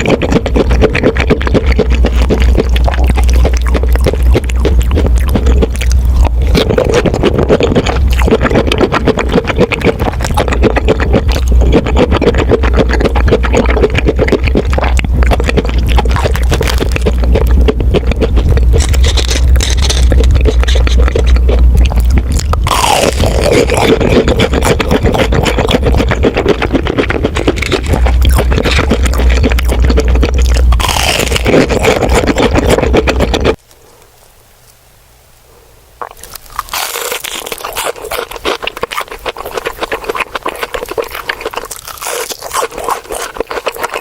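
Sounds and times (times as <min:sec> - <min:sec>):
chewing crispy fried food: 0:00.0 - 0:33.6, 0:36.0 - 0:44.0.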